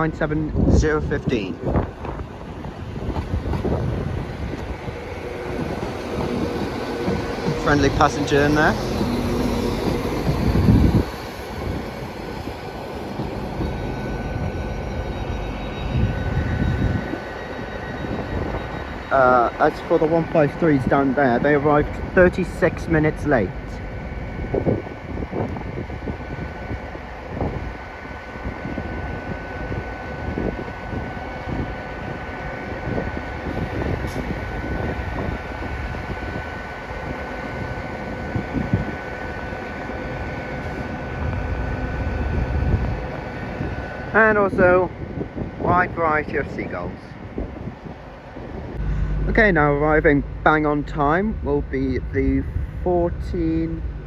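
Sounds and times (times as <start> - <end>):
faint high whine: 0.0 - 47.8, 48.4 - 54.0
gusty low rumble: 0.0 - 54.0
train diesel engines droning: 0.0 - 54.0.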